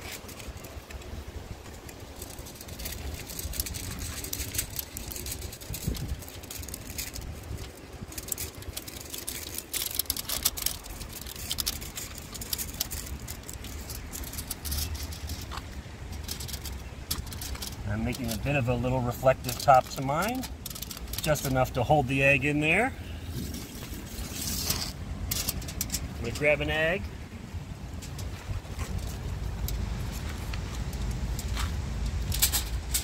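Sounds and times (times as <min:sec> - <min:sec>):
aluminium foil crinkling: 0:00.0 - 0:27.0
steady low rumble: 0:00.0 - 0:33.0.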